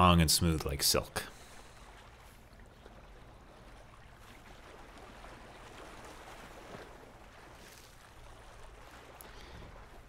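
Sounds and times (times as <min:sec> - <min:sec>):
water lapping on rocky shore: 0:01.3 - 0:10.0.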